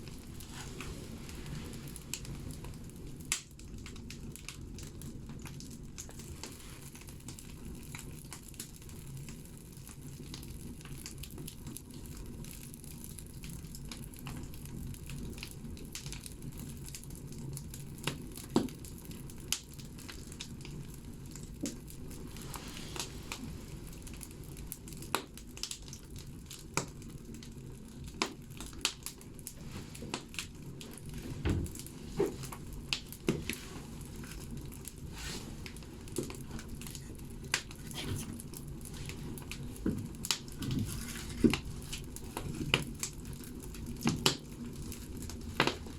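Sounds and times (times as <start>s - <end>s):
fire rushing in wood stove: 0.0s - 45.9s
logs crackling and popping: 0.0s - 45.9s.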